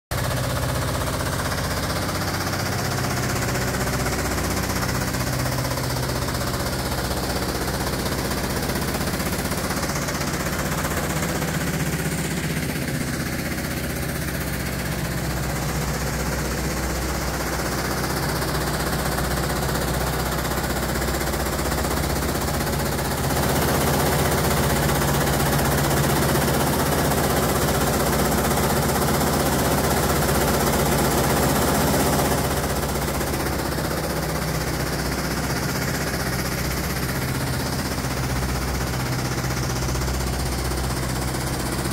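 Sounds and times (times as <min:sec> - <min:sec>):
diesel engine running: 0:00.1 - 0:41.9
fast mechanical rattle: 0:00.1 - 0:41.9.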